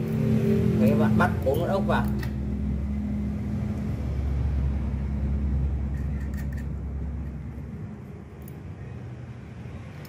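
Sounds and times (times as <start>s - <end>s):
low engine-like rumble: 0.0s - 10.0s.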